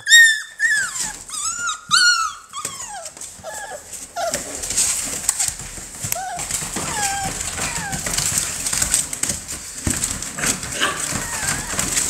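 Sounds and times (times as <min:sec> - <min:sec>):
puppy whining: 0:00.0 - 0:05.2, 0:06.0 - 0:09.0, 0:10.4 - 0:12.0.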